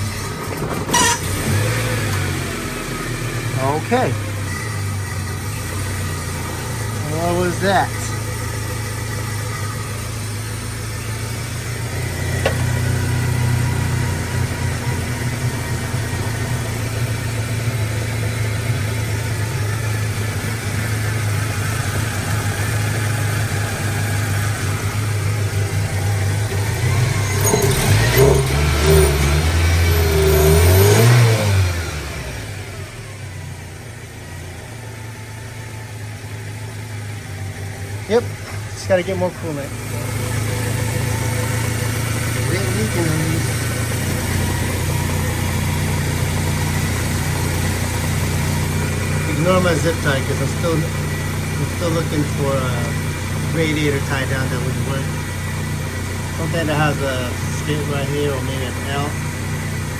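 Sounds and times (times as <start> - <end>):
car engine idling: 0.0 - 59.9
engine revving: 0.0 - 59.9.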